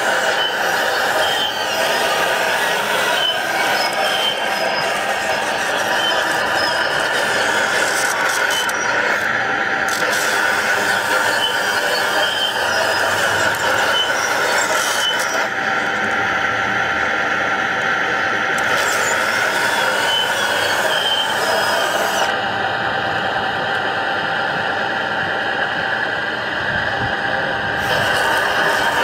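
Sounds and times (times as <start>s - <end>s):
model excavator mechanical whine: 0.0s - 29.0s.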